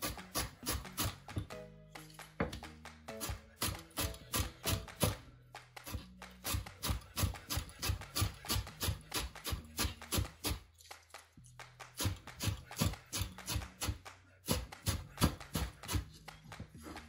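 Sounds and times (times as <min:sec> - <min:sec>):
knife chopping on wooden board: 0:00.0 - 0:01.6, 0:02.4 - 0:10.6, 0:11.8 - 0:17.0
soft background music: 0:00.0 - 0:17.0.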